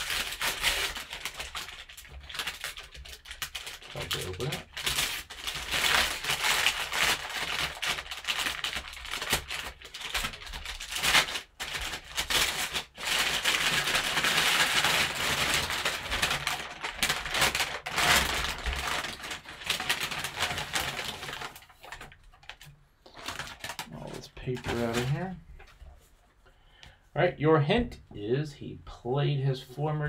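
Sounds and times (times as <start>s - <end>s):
packing paper crinkling: 0.0s - 25.9s.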